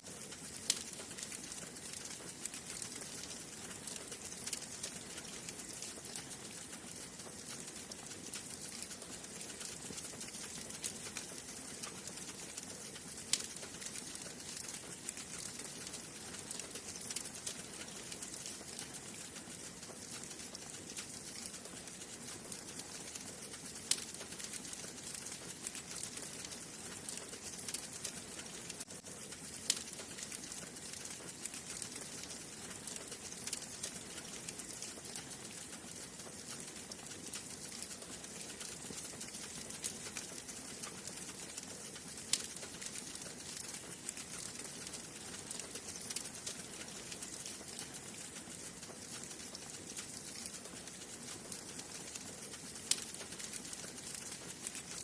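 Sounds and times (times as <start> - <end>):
wood fire crackling in fireplace: 0.0 - 55.0.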